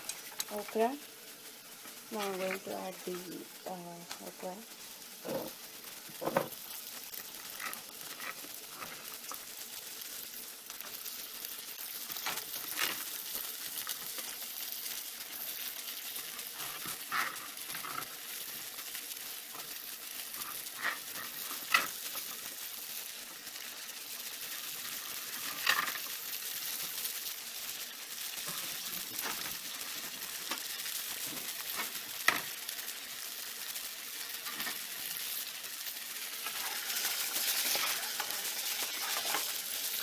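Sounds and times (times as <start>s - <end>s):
onion sizzling in a frying pan: 0.0s - 40.0s.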